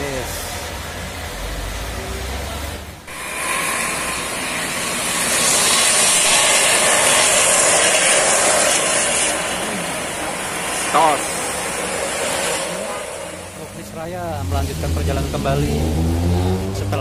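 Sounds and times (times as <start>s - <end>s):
bus passing through spray: 0.0s - 17.0s.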